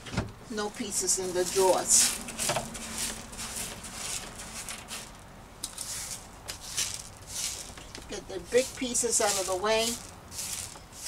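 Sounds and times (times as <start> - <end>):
brush sweeping broken glass: 1.0 - 7.8, 8.4 - 11.0.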